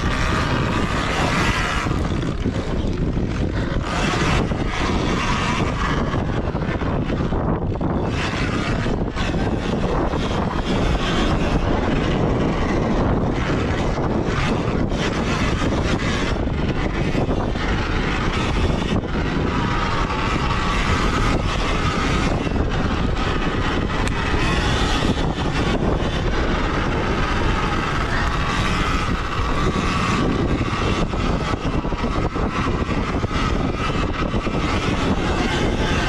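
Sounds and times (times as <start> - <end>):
electric motor whine: 0.0 - 36.0
wind on microphone: 0.0 - 36.0.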